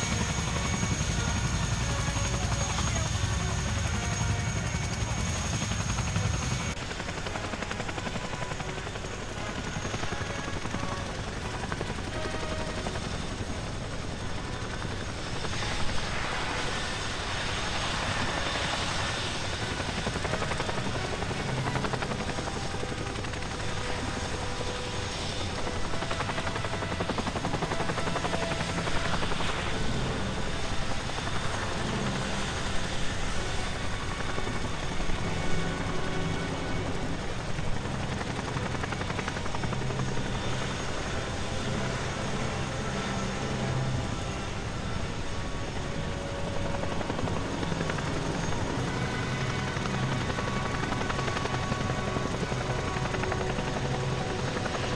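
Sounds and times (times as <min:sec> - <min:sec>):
helicopter rotors beating: 0:00.0 - 0:54.9.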